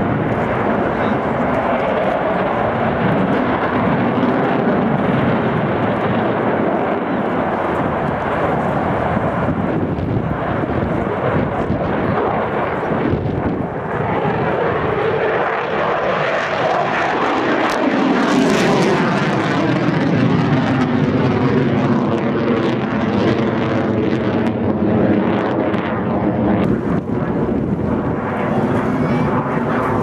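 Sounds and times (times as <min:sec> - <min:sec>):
fighter jet engines roaring: 0:00.0 - 0:30.0.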